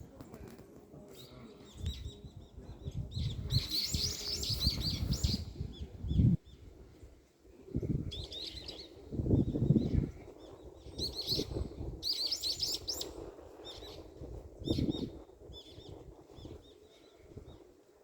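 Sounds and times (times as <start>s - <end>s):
small birds chirping: 1.0s - 17.8s.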